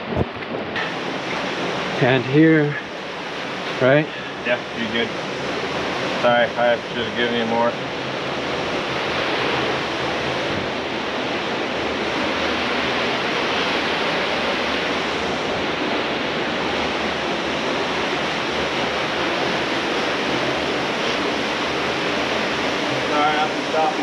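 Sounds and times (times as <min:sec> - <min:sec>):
flowing water: 0:00.0 - 0:24.0.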